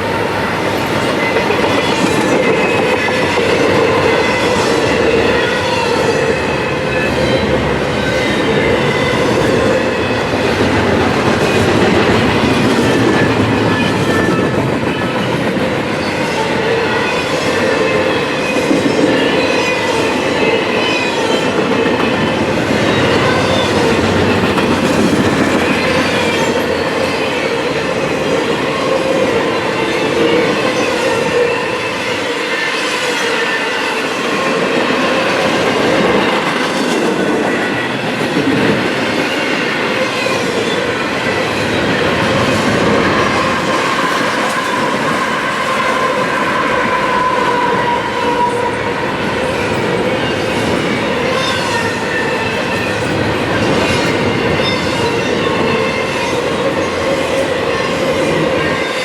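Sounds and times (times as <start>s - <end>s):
wheels squealing on rail: 0.4s - 59.0s.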